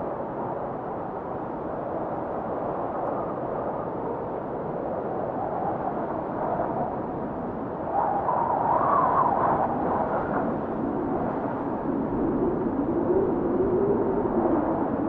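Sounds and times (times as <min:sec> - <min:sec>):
wind blowing and whistling: 0:00.0 - 0:15.0.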